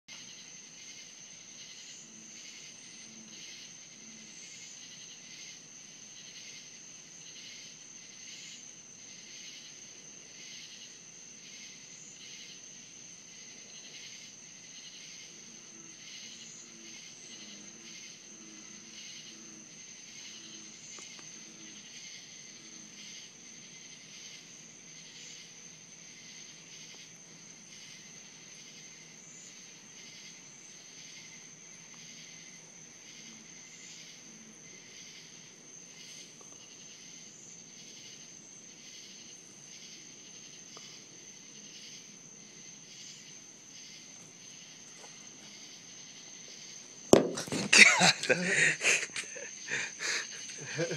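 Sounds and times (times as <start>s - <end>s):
high-pitched insect trill: 0.1s - 50.9s
rhythmic pulsing insect chirp: 0.1s - 50.9s.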